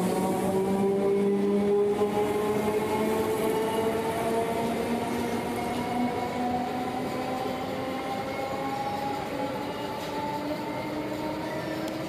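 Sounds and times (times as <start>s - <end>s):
electric train whine: 0.0s - 12.0s
rail and wheel noise: 0.0s - 12.0s.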